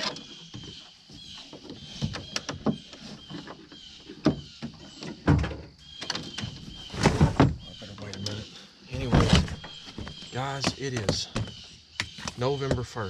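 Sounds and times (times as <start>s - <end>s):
knocks and clunks: 0.0s - 13.0s.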